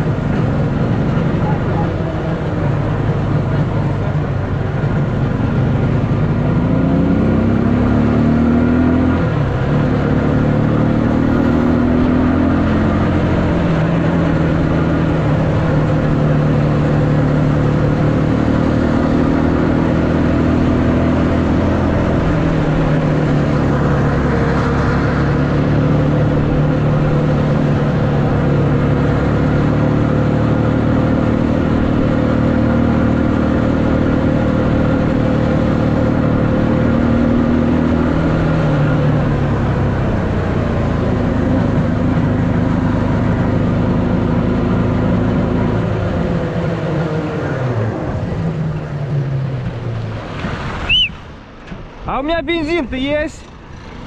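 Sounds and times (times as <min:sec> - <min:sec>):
engine running under load: 0:00.0 - 0:54.0
wind and tyre noise: 0:00.0 - 0:54.0.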